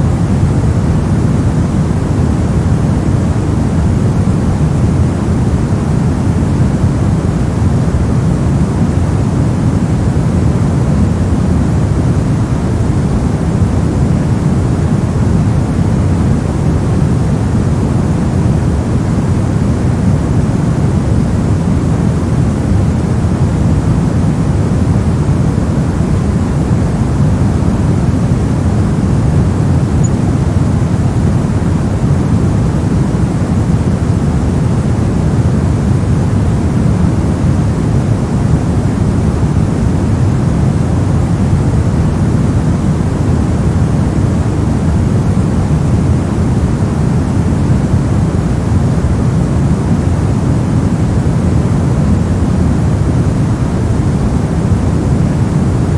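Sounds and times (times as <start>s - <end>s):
deep white noise hiss: 0.0s - 55.9s.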